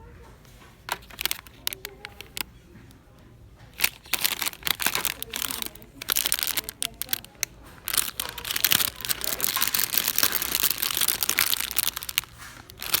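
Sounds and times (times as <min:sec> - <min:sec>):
crinkly packaging rustling: 0:00.6 - 0:02.5, 0:03.6 - 0:13.0.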